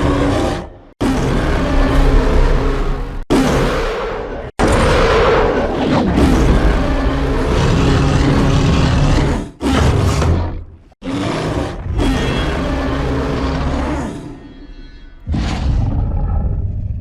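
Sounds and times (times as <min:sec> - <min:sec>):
giant ape roars: 0:00.0 - 0:17.0.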